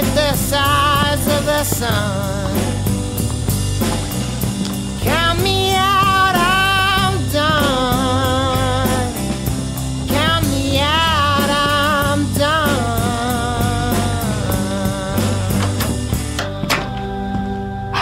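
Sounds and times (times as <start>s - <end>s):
person singing: 0.0s - 3.0s, 5.0s - 18.0s
rock music: 0.0s - 18.0s.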